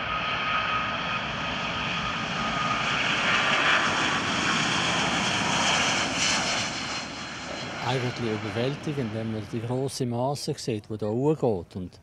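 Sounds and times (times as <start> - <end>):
jet engines at takeoff: 0.0 - 9.8.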